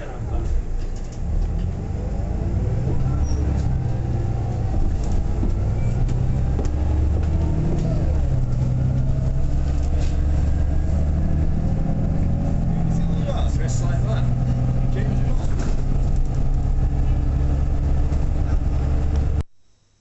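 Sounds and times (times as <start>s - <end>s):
vehicle engine rumbling: 0.0s - 19.5s.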